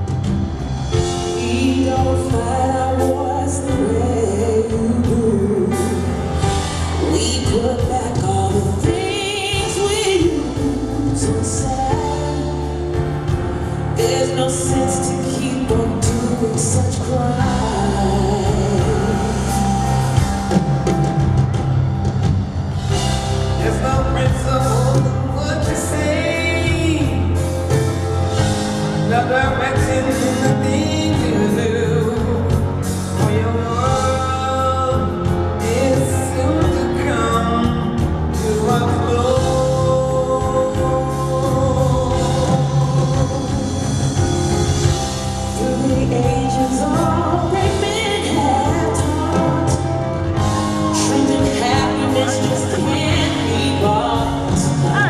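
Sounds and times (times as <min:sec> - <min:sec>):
woman singing lead melody: 0:00.0 - 0:21.8, 0:22.9 - 0:55.0
drums: 0:00.0 - 0:55.0
keyboards: 0:00.0 - 0:55.0.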